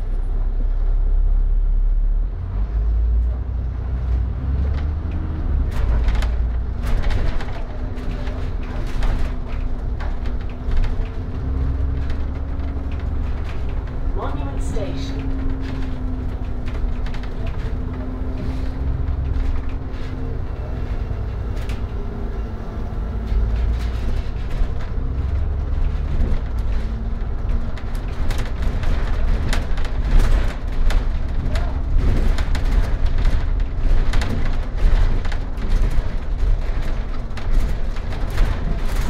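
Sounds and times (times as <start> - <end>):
bus engine and road rumble: 0.0 - 39.0
knocks and rattles: 4.7 - 39.0.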